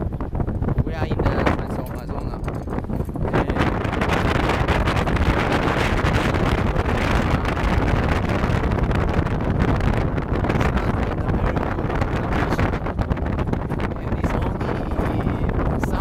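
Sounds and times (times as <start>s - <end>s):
vehicle and tyres rumbling: 0.0s - 16.0s
wind buffeting microphone: 0.0s - 16.0s.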